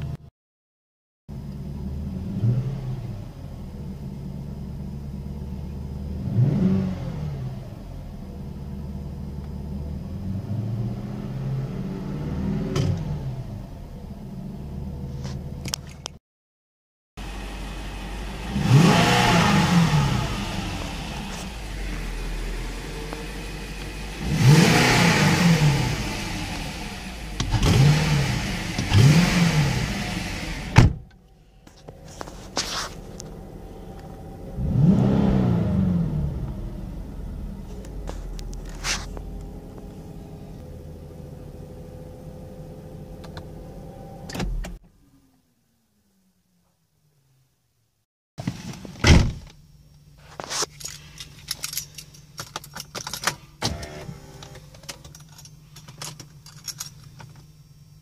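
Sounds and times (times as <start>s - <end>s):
car engine idling and revving: 1.3s - 16.2s, 17.2s - 46.7s, 48.6s - 58.0s.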